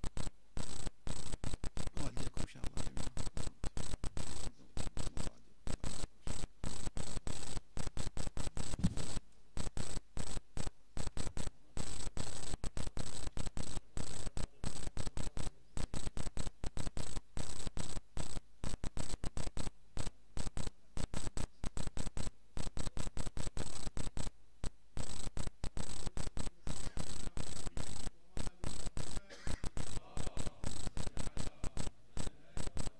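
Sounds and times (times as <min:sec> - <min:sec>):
electrical hiss and crackle: 0:00.0 - 0:32.9.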